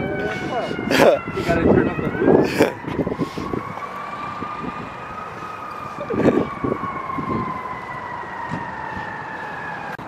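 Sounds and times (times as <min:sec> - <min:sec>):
siren wailing: 0:00.0 - 0:10.0.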